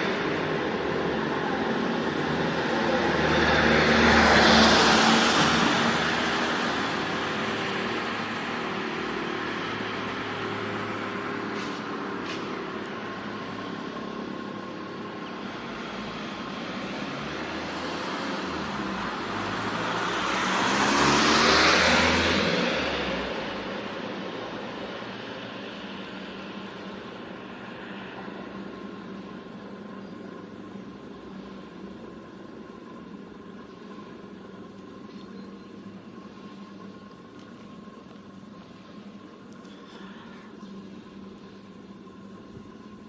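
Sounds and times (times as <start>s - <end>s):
cars passing by: 0.0s - 43.0s
low traffic noise: 0.0s - 43.0s.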